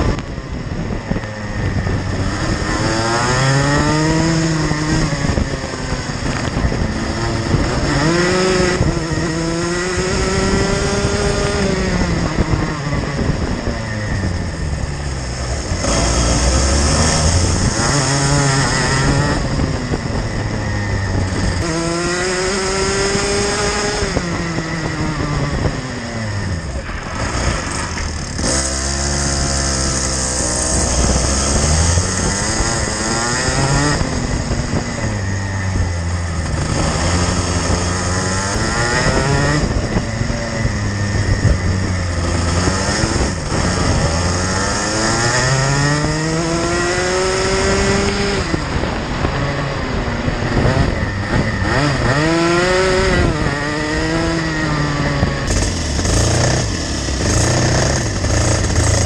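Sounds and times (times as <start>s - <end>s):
kart engine revving: 0.0s - 59.0s
several kart engines running: 0.0s - 59.0s.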